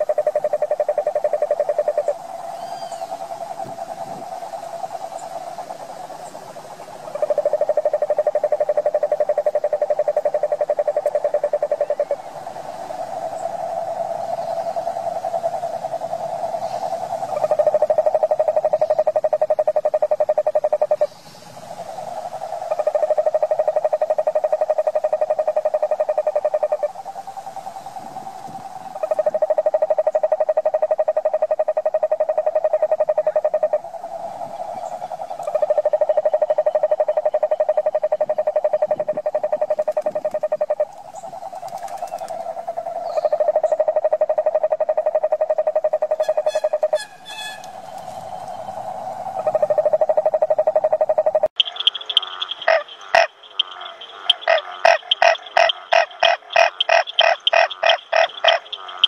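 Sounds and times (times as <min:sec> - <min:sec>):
toads trilling in chorus: 0:00.0 - 0:59.0.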